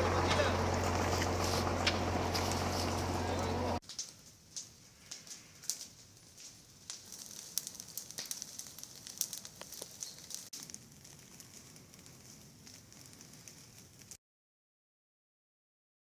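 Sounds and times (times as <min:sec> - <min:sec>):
fire crackling and popping: 0:00.0 - 0:14.2.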